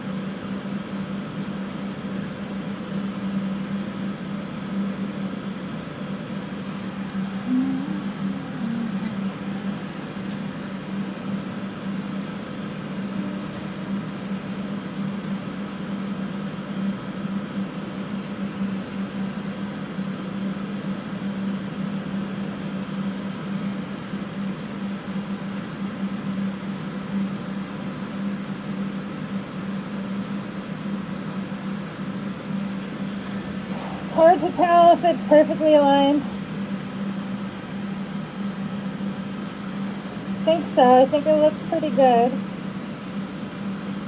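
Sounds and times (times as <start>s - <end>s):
electric fans whooshing: 0.0s - 30.4s, 31.1s - 44.0s
steady low hum: 0.0s - 44.0s.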